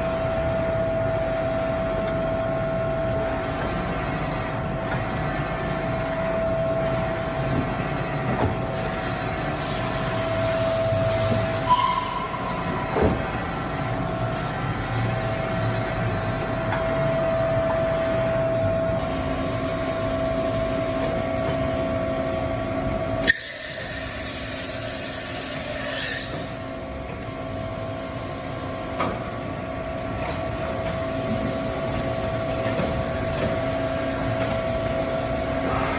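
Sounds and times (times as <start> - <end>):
boring mill mechanical whine: 0.0 - 35.9.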